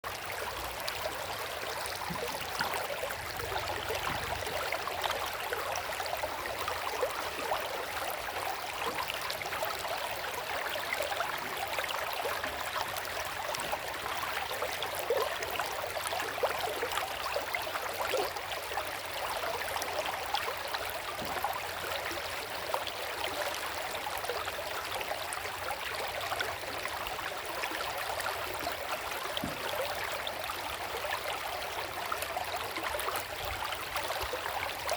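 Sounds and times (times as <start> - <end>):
small water splashes: 0.1 - 34.9.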